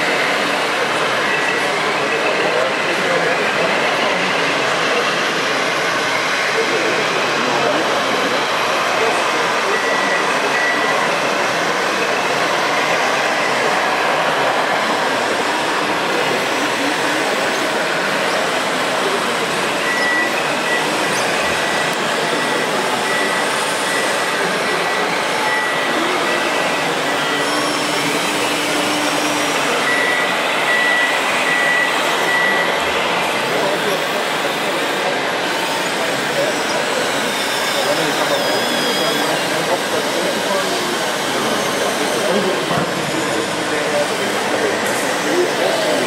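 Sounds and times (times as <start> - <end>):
model construction machines running: 0.0 - 46.0
reversing alarm beeping: 1.2 - 15.3, 16.1 - 35.0, 35.9 - 46.0.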